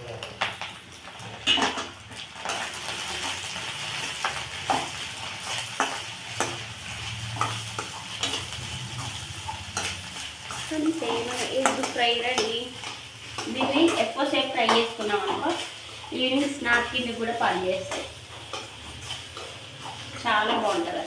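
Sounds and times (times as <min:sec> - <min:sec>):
frying sizzle: 0:00.0 - 0:21.0
metal spatula scraping a pan: 0:01.4 - 0:21.0.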